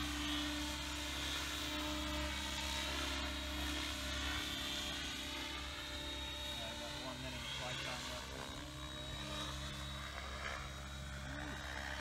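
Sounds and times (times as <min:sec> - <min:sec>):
rc helicopter motor whine: 0:00.0 - 0:12.0.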